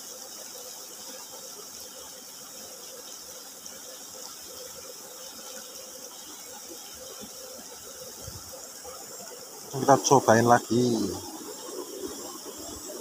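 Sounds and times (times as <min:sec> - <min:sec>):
shallow stream running: 0:00.0 - 0:13.0.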